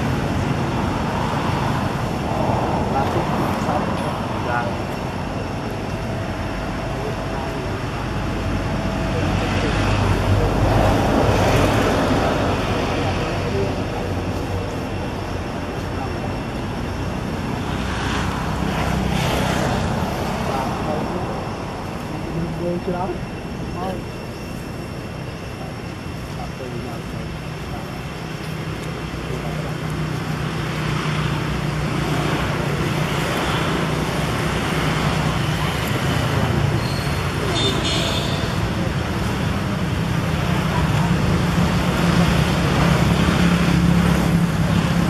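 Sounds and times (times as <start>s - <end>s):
outdoor rumble and hiss: 0.0s - 45.0s
traffic noise: 0.0s - 45.0s.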